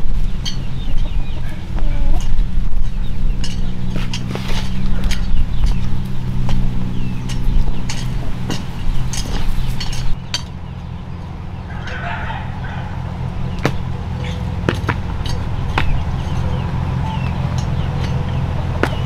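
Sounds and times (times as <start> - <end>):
bird chirps: 0.0 - 19.0
steady low hum: 0.0 - 19.0.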